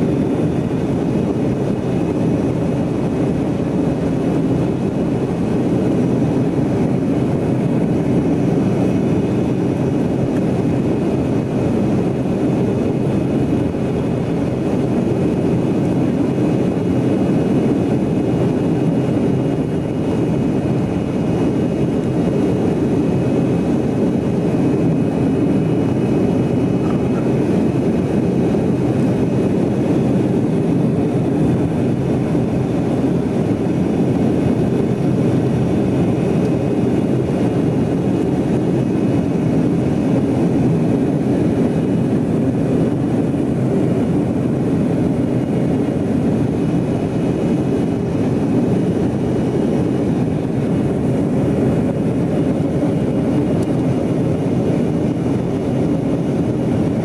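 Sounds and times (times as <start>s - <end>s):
jet engine and airflow rush: 0.0s - 57.0s.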